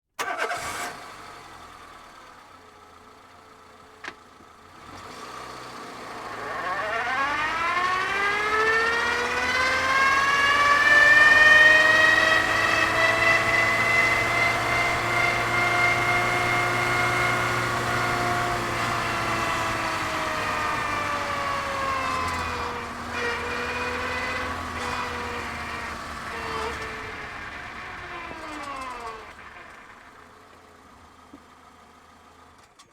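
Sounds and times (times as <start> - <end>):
reverse gear whine: 4.0 - 31.6.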